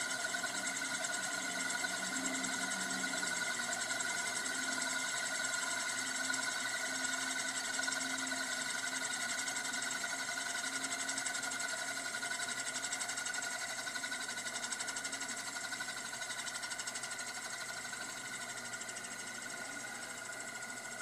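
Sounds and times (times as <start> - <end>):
spinning steel disc whirring rattle: 0.0 - 21.0.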